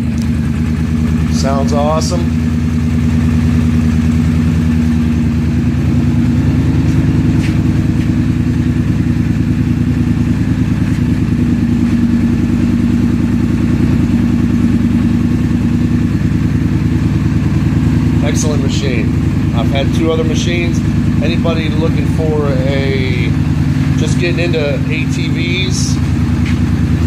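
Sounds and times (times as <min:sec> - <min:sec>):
atv engine idling: 0:00.0 - 0:27.0.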